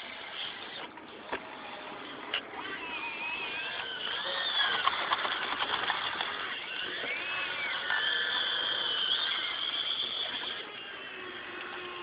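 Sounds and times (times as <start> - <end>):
model excavator motors whining: 0.0 - 12.0.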